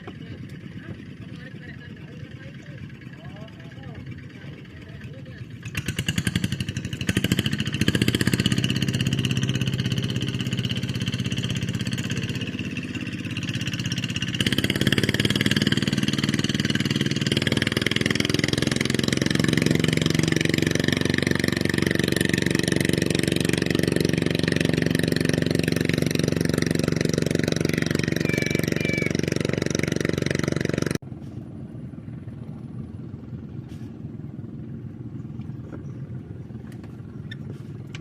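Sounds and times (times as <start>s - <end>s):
small engine starting and running: 0.0s - 31.0s.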